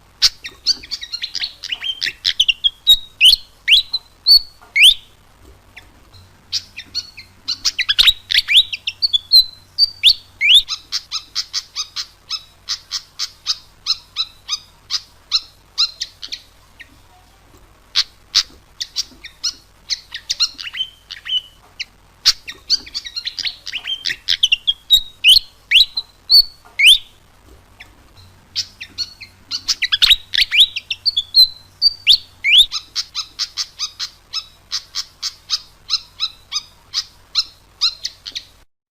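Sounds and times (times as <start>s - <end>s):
bird singing squeaky chirps: 0.2s - 5.2s, 5.8s - 16.9s, 18.0s - 27.2s, 27.8s - 38.6s.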